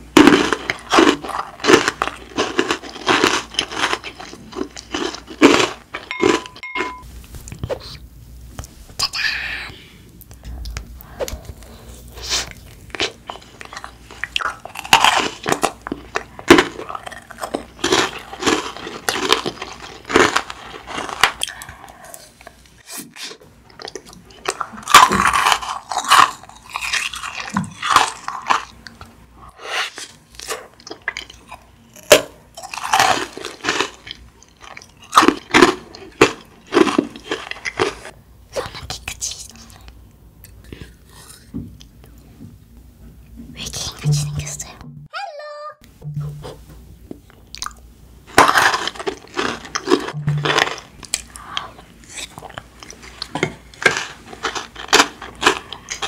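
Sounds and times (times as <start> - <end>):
crunchy chewing: 0.2 - 8.0, 12.1 - 29.1, 29.8 - 42.2, 47.3 - 56.0.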